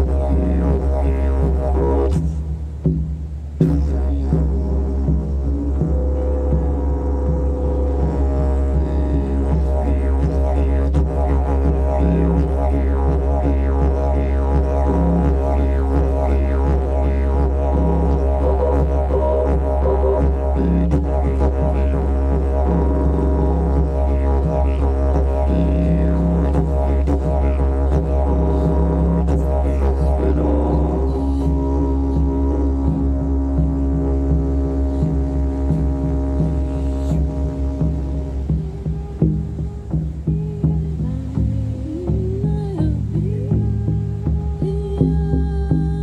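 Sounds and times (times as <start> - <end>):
didgeridoo drone: 0.0 - 46.0.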